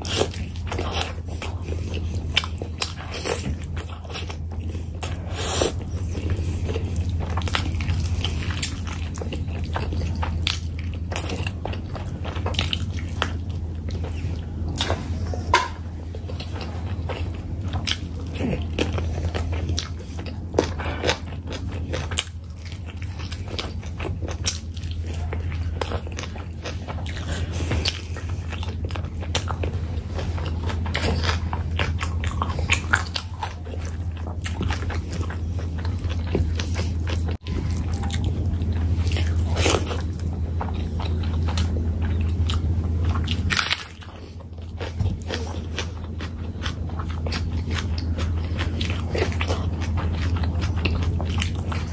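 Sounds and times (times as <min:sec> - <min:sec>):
chewing and mouth smacks: 0:00.0 - 0:51.9
steady low hum: 0:00.0 - 0:51.9.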